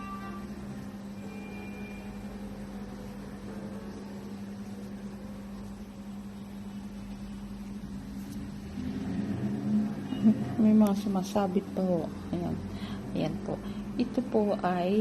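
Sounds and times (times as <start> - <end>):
low hum with faint hiss: 0.0 - 15.0.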